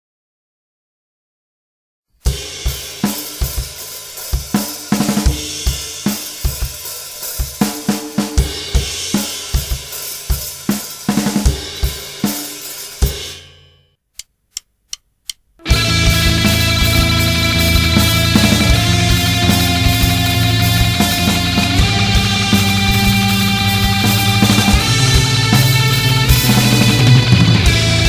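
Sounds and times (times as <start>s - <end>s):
rock drum kit playing: 2.2s - 13.8s, 15.6s - 28.0s.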